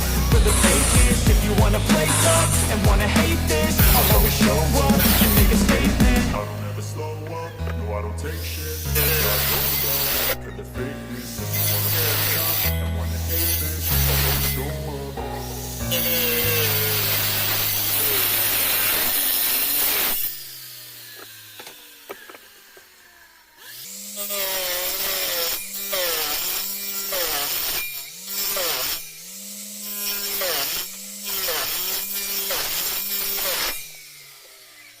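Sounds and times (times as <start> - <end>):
table saw cutting wood: 0.0 - 35.0.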